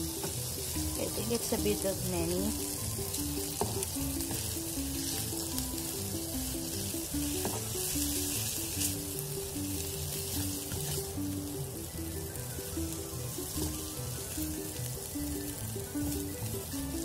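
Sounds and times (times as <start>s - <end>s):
spatula stirring in a pan: 0.0s - 14.8s
background music: 0.0s - 17.0s
pasta sizzling in a frying pan: 0.0s - 17.0s.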